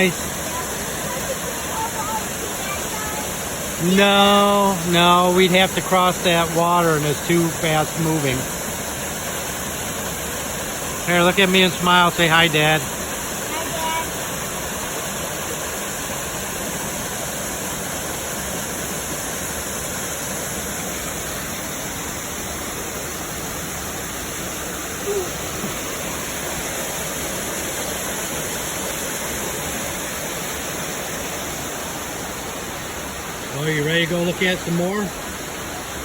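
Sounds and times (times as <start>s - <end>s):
waterfall and creek rushing: 0.0s - 36.0s.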